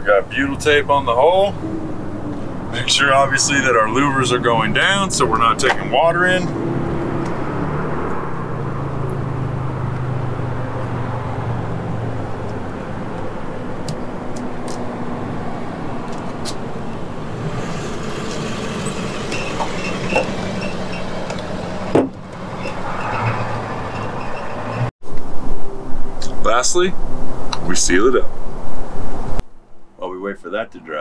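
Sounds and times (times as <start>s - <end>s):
low engine hum: 0.0s - 24.9s
outdoor traffic noise: 0.0s - 30.4s.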